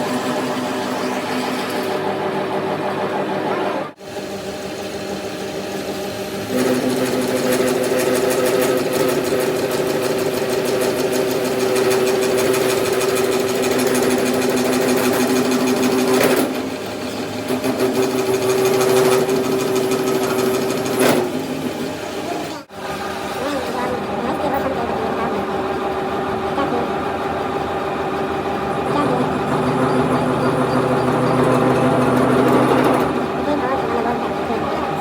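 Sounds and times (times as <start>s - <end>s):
workshop machine humming and rattling: 0.0s - 35.0s.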